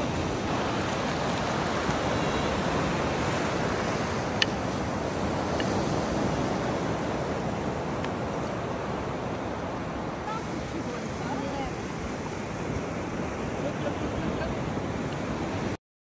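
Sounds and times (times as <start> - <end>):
surf breaking on beach: 0.3 - 15.7.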